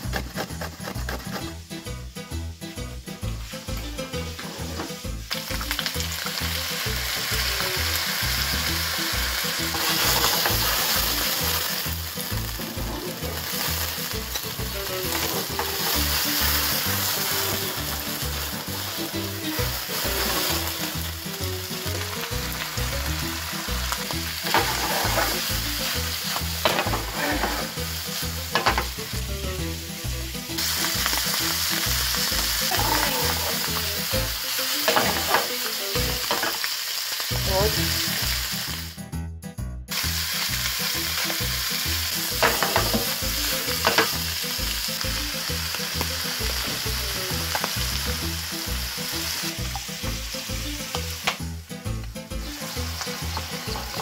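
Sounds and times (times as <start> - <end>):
vegetables sizzling in frying pan: 0.0 - 39.0, 39.9 - 54.0.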